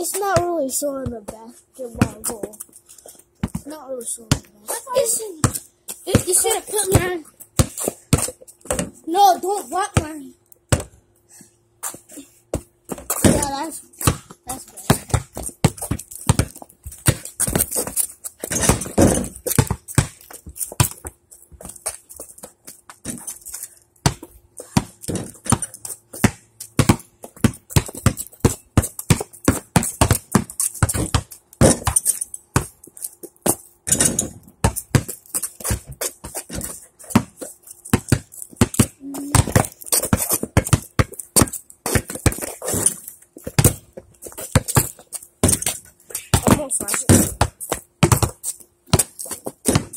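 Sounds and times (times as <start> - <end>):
basketball bouncing on concrete: 0.0 - 11.1, 11.8 - 49.9.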